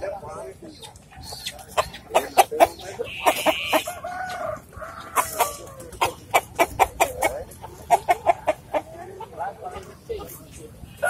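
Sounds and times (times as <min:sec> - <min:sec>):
rooster clucking: 0:01.0 - 0:11.0.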